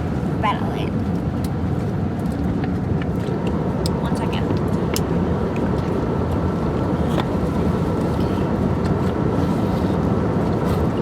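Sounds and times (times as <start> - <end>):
airliner cabin engine drone: 0.0 - 11.0.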